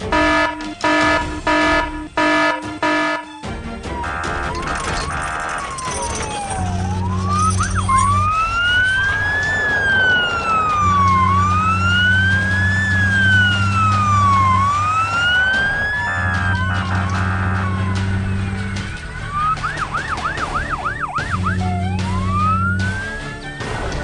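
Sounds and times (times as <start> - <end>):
siren wailing: 0.0 - 3.4, 4.0 - 23.4.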